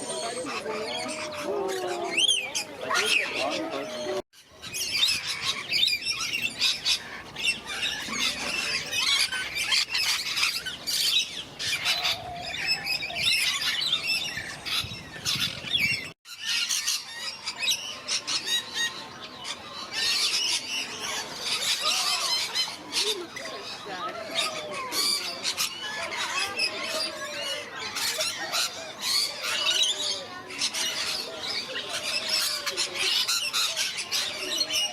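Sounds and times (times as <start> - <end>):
parrots squawking: 0.0 - 34.9.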